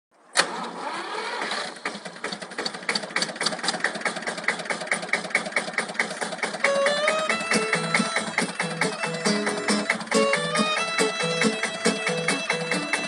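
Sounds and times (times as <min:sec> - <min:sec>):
tractor engine idling: 0:01.0 - 0:13.0.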